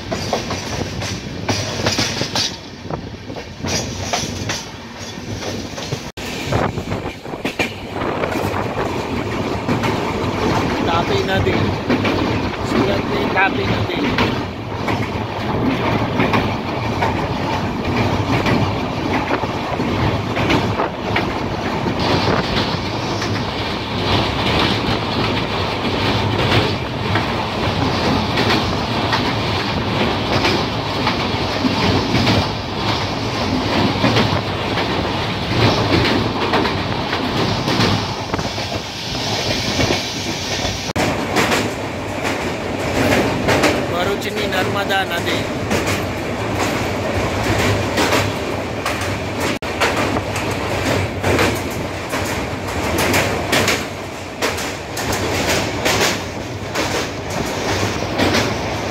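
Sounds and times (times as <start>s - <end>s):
clickety-clack over rail joints: 0.0s - 58.9s
train wheels rumbling on rails: 0.0s - 58.9s.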